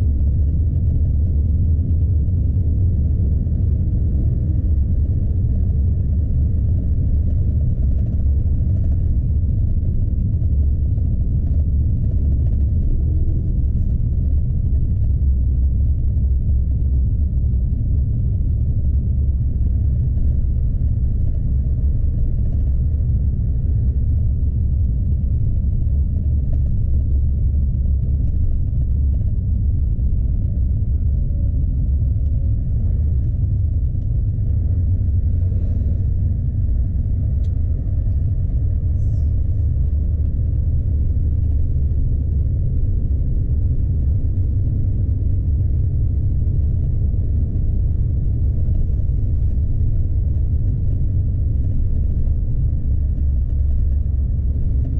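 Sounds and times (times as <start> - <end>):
truck diesel engine rumble: 0.0 - 54.9.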